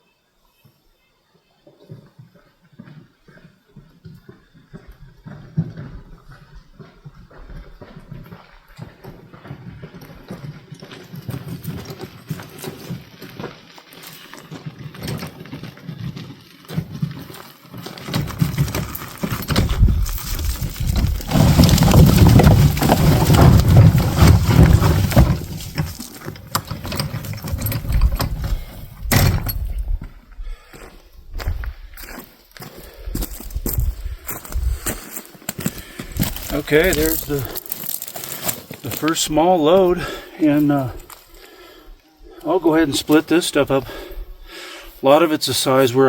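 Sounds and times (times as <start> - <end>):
footsteps: 1.9 - 46.0
wheelbarrow crunching over rough ground: 4.2 - 46.0.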